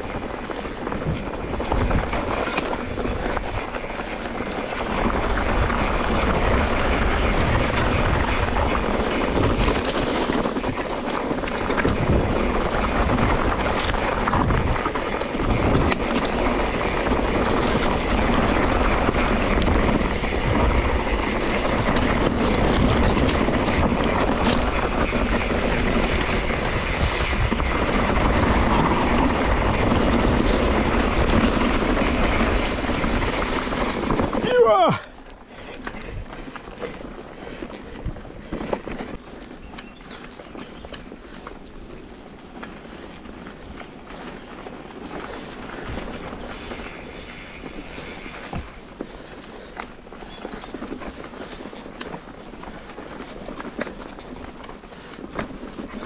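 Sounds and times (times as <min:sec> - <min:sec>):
bike tyres on dirt trail: 0:00.0 - 0:56.0
wind buffeting microphone: 0:00.0 - 0:56.0.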